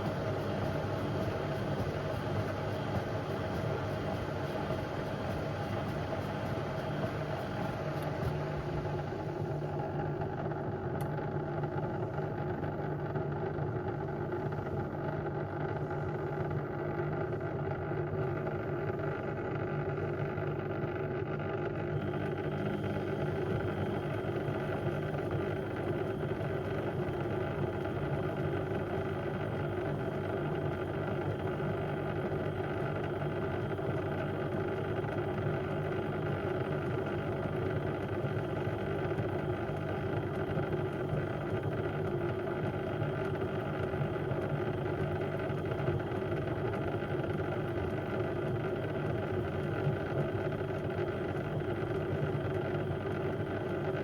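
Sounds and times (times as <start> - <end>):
washing machine running: 0.0 - 13.2, 21.9 - 54.0.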